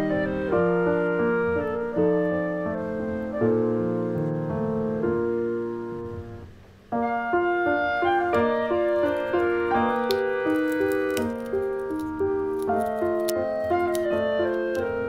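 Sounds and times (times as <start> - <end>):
piano music with held notes: 0.0 - 15.0.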